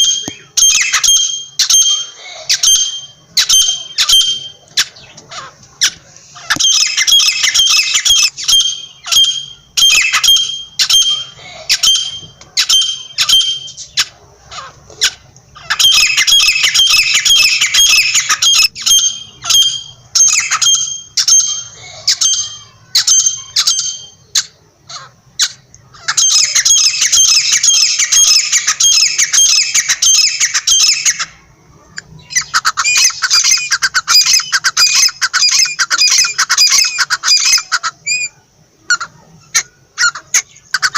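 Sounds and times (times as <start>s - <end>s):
francolins calling: 0.0s - 40.9s.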